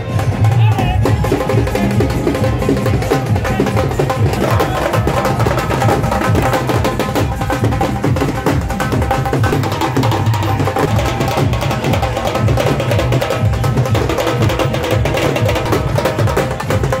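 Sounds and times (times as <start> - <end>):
dhol drums in dance music: 0.0 - 17.0.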